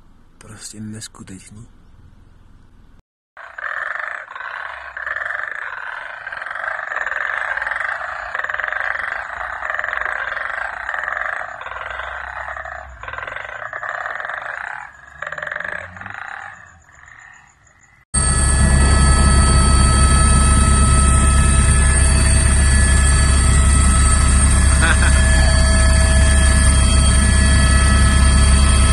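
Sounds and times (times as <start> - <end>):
chorus of frogs calling: 3.4 - 28.9.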